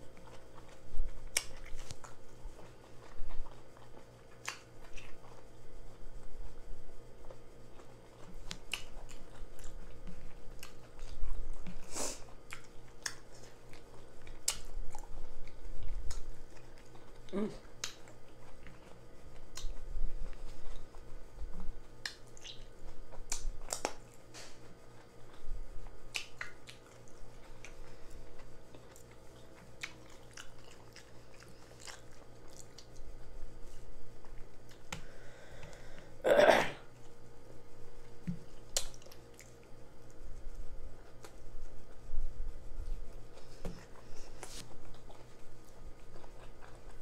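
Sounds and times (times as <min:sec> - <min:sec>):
person chewing food: 0:00.0 - 0:36.2, 0:36.8 - 0:47.0.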